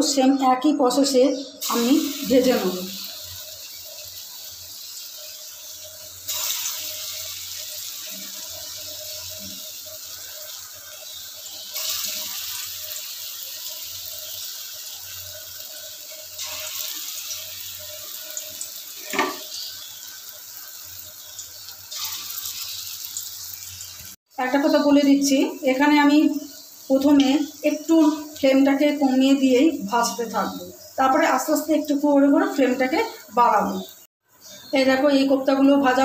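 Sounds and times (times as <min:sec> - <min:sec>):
food sizzling in hot oil: 0:01.0 - 0:36.0.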